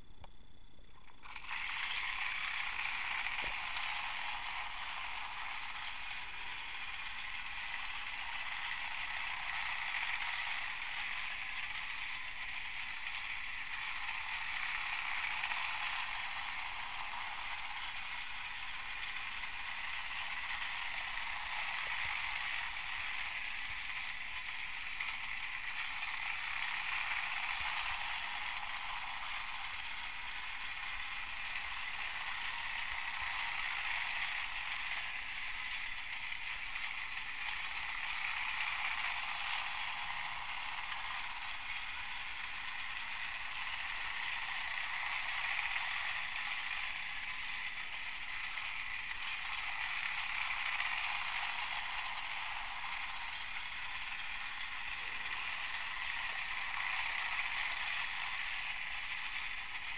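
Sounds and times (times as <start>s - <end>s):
toy train motor whirring: 0.0s - 59.9s.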